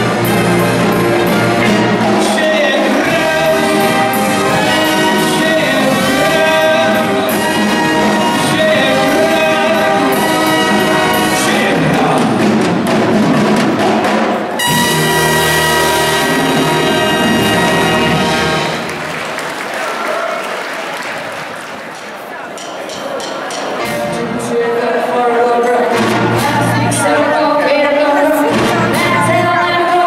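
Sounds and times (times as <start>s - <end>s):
live big band playing: 0.0s - 19.7s, 23.4s - 30.0s.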